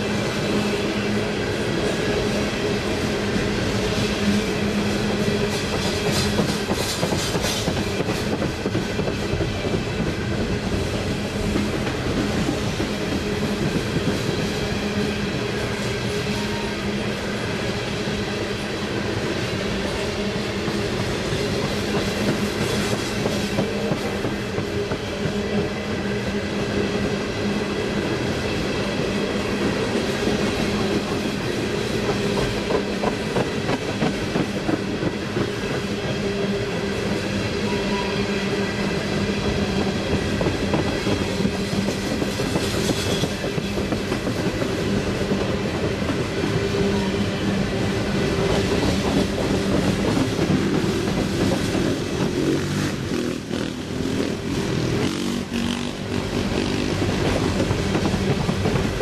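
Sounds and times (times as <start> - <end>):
freight train drone: 0.0 - 59.0.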